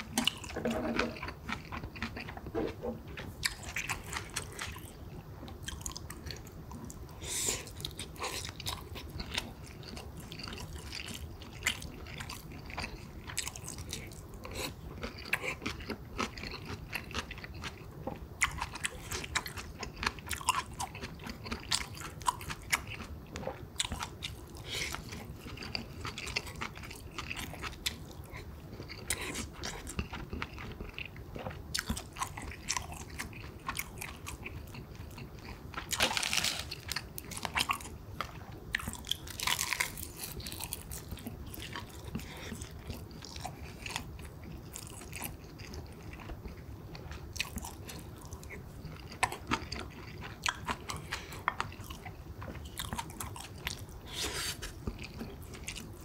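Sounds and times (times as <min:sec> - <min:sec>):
person chewing with smacks: 0:00.0 - 0:56.0.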